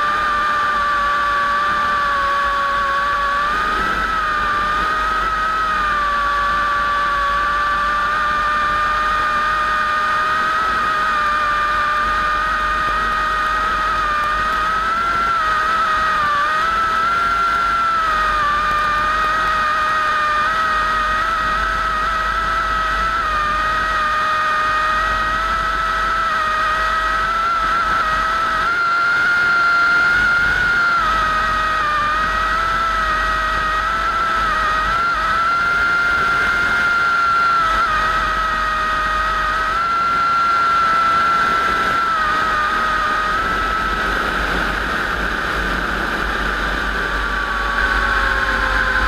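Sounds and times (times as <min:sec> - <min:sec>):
low engine rumble: 0:00.0 - 0:49.0
piston aircraft engines whining: 0:00.0 - 0:49.0.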